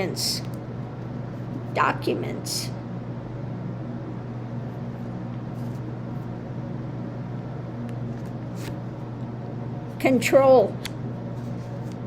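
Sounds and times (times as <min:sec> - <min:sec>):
fan humming and whooshing: 0:00.0 - 0:12.0.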